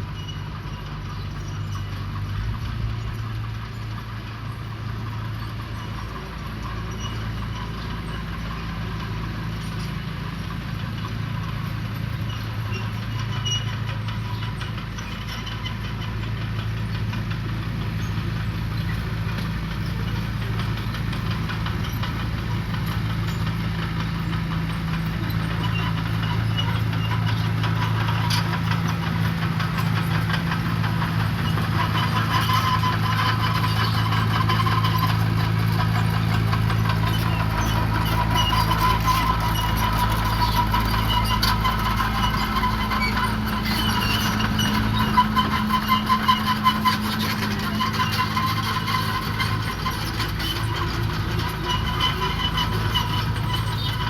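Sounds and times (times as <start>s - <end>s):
diesel engine running: 0.0s - 54.0s
light metallic clatter: 5.4s - 54.0s.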